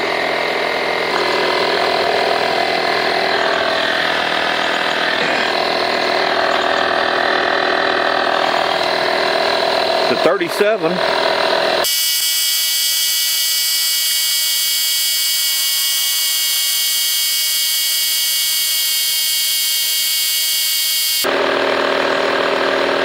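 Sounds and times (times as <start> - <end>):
air compressor whining: 0.0 - 23.0.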